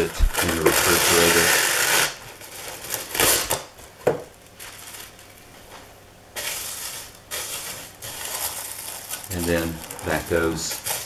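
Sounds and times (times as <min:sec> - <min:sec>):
plastic wrap rustling and crinkling: 0:00.0 - 0:11.0.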